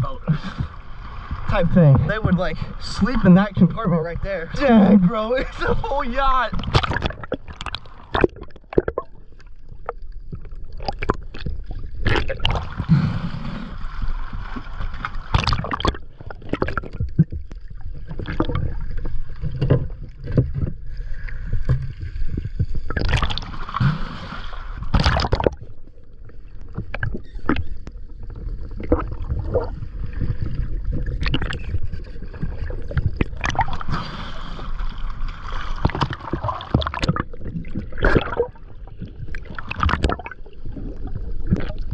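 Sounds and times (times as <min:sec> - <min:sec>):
muffled underwater rumble: 0:00.0 - 0:35.2
water sloshing and splashing: 0:00.0 - 0:41.9.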